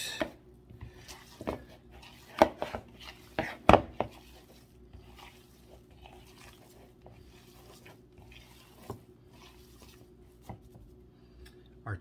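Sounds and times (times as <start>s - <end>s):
wet squishing of kneaded meat: 0.6s - 11.0s.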